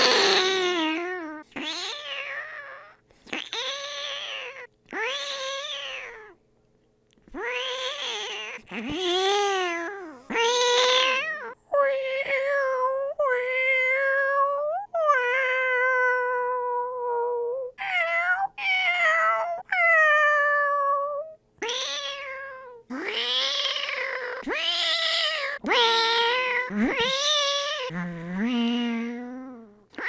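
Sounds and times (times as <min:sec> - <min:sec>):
person imitating cat meows: 0:00.0 - 0:06.3, 0:07.3 - 0:30.0.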